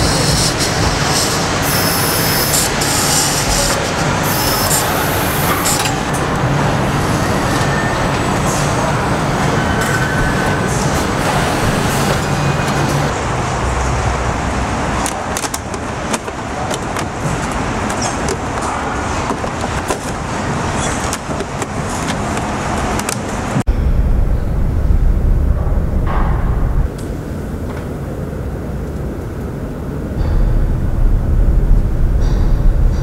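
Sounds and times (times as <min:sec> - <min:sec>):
machinery noise with low hum: 0:00.0 - 0:33.0.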